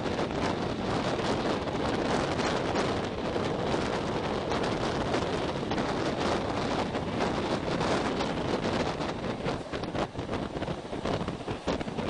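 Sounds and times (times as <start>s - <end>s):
train rolling noise: 0.0s - 12.0s
wind buffeting a microphone: 0.0s - 12.0s.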